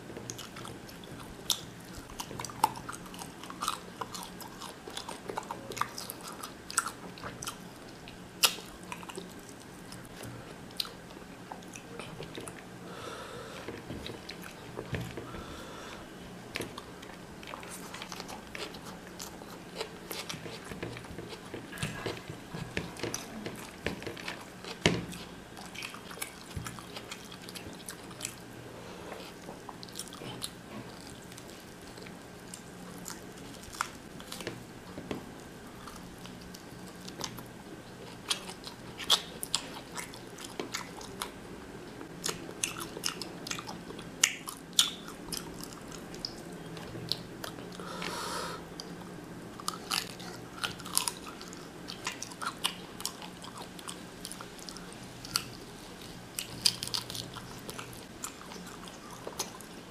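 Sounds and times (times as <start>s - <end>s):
faint steady low hum: 0.0s - 59.9s
man chewing food: 0.0s - 59.9s.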